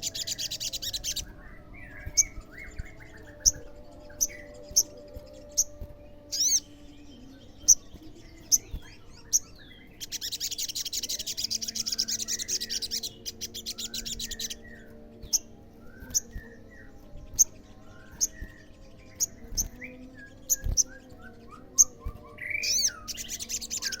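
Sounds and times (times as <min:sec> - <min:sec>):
buzzy bird trill: 0:00.0 - 0:24.0.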